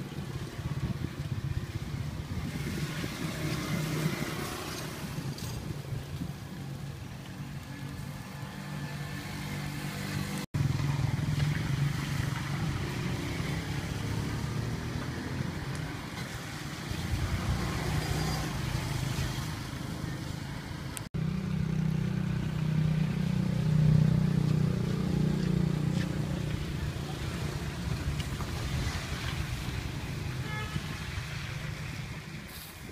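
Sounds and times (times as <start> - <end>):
outdoor background noise: 0.0 - 32.9.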